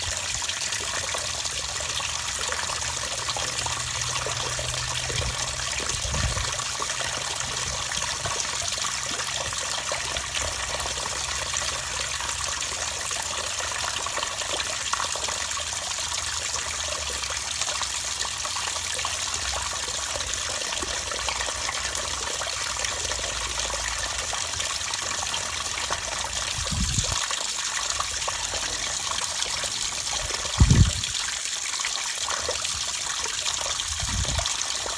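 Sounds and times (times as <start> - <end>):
water running steadily: 0.0 - 34.9.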